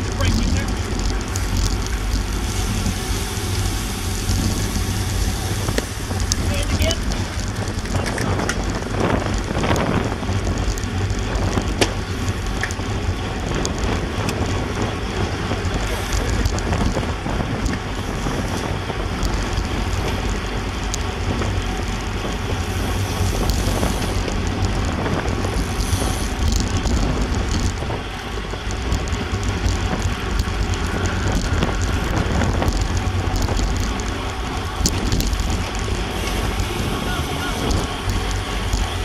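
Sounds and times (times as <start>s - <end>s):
tyre noise on asphalt: 0.0s - 39.0s
wind buffeting microphone: 0.0s - 39.0s.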